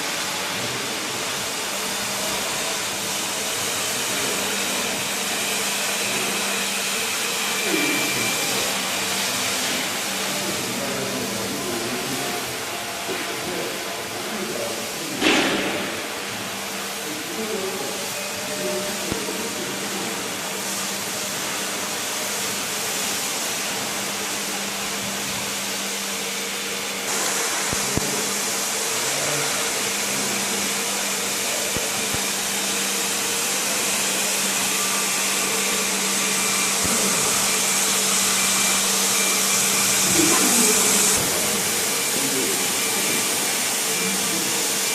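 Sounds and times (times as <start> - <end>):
floor scrubber whirring hiss: 0.0 - 44.9.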